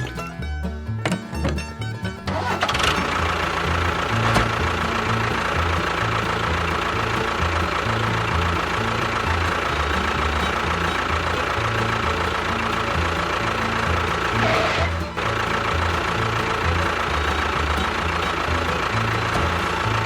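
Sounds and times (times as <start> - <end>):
background music with bass line: 0.0 - 20.0.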